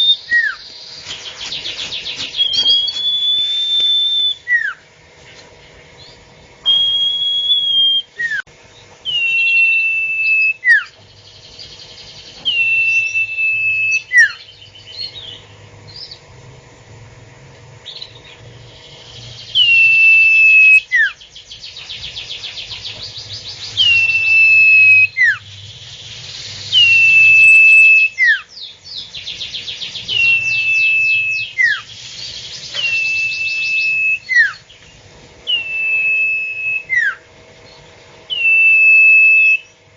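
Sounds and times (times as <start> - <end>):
bird whistled call: 0.0 - 4.8, 6.0 - 16.2, 17.9 - 34.8, 35.5 - 37.3, 38.3 - 39.8.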